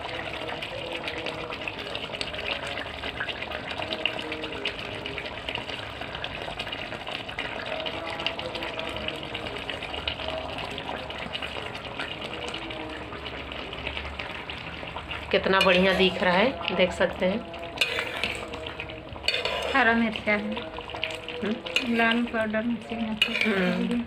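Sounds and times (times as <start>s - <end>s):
curry simmering and bubbling: 0.0s - 24.0s
spatula stirring in pan: 0.0s - 24.0s.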